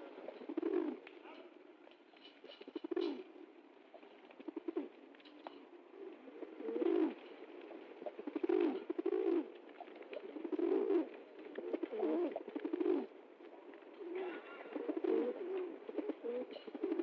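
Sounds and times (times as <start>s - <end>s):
pigeons cooing: 0.0s - 1.6s, 2.2s - 17.0s.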